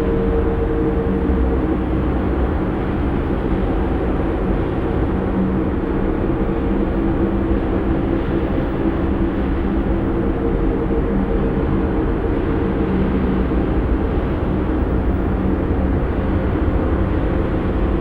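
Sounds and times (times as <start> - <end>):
dark ambient drone music: 0.0 - 18.0.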